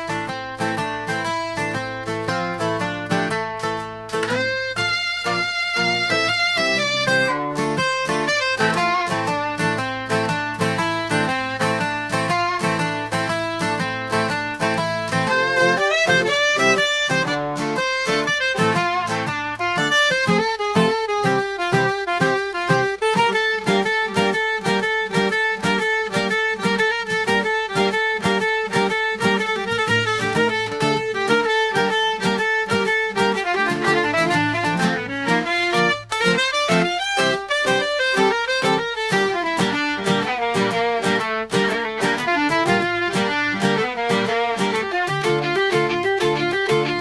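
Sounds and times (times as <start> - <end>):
fast string music: 0.0 - 47.0.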